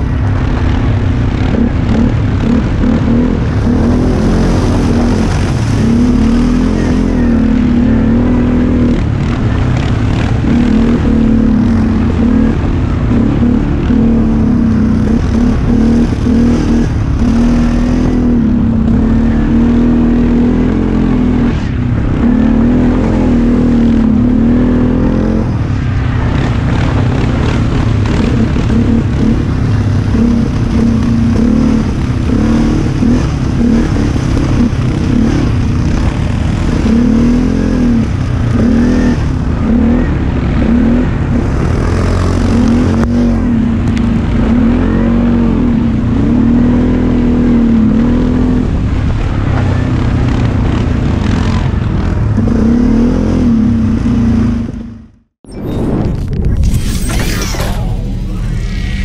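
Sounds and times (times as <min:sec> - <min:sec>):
atv engine revving: 0:00.0 - 0:55.3.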